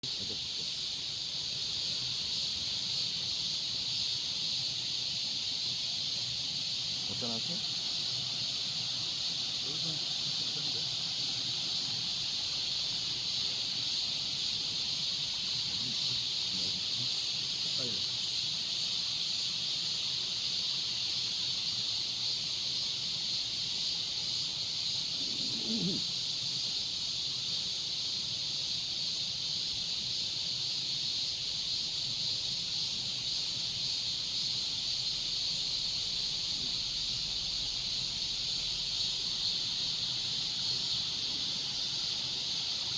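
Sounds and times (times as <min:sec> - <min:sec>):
insects chorus: 0:00.0 - 0:42.9.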